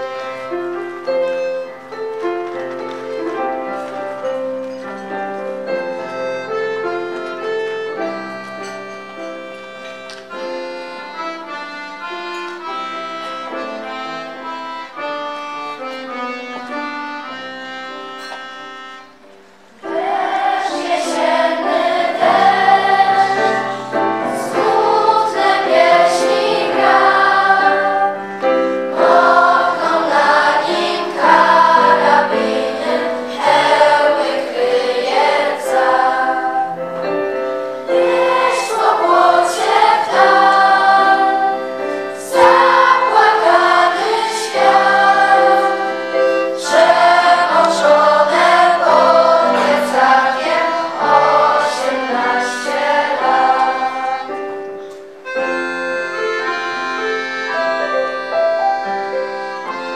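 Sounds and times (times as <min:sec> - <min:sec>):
choir singing a hymn: 0:00.0 - 0:02.1, 0:03.0 - 0:16.4, 0:19.7 - 0:59.9.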